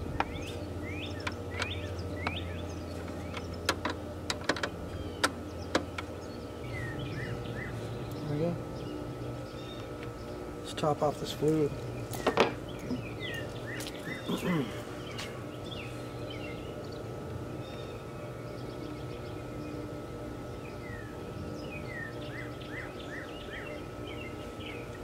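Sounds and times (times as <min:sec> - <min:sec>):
songbirds chirping: 0:00.0 - 0:25.0
steady low hum: 0:00.0 - 0:25.0.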